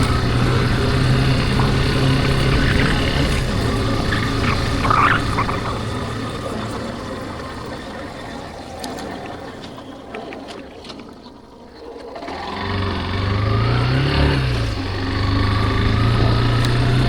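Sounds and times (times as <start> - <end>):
motorcycle engine: 0.0 - 9.9, 12.1 - 17.0.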